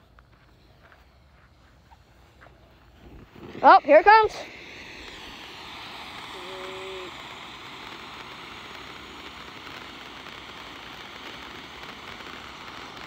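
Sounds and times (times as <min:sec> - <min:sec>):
firework fountain hissing: 0:00.0 - 0:13.0.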